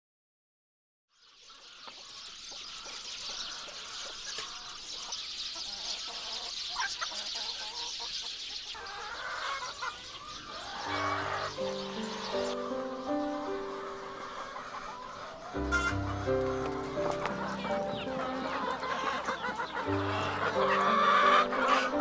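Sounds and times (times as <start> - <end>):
chickens clucking: 1.2 - 22.0.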